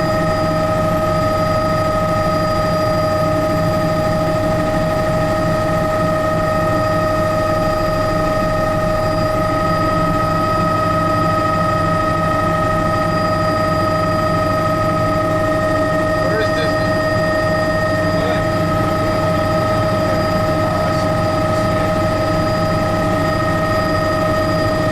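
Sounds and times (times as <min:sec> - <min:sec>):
helicopter engine and rotor: 0:00.0 - 0:24.9
steady whining tones: 0:00.0 - 0:24.9.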